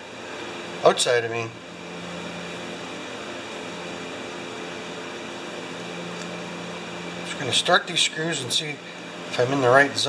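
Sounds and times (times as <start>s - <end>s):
workshop room hum and hiss: 0.0s - 10.0s.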